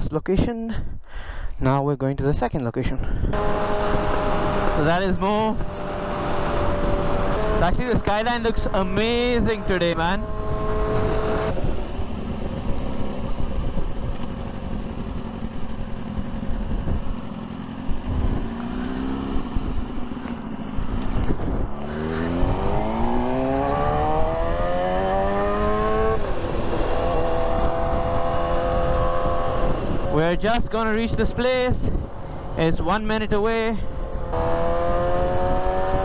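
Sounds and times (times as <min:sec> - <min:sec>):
motorcycle engine accelerating: 0:03.3 - 0:36.0.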